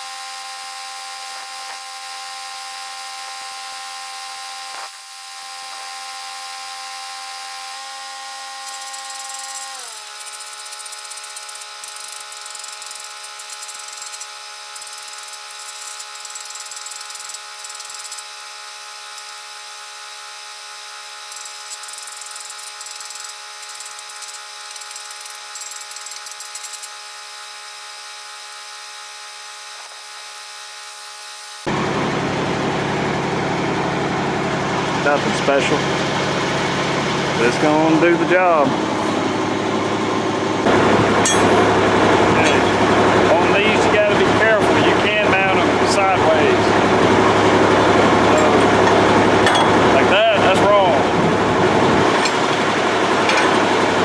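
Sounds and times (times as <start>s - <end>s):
power tool motor whining: 0.0s - 33.0s, 37.4s - 54.0s.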